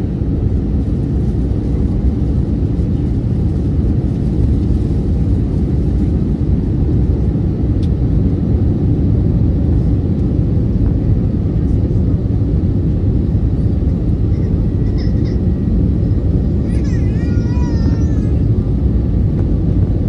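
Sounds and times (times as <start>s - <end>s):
airliner engine rumble in cabin: 0.0s - 20.0s.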